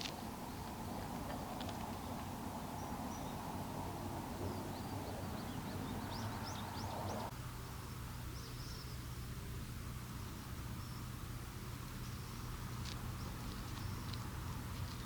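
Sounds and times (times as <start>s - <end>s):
small birds chirping: 0.0s - 9.1s, 10.1s - 11.3s, 11.9s - 15.0s.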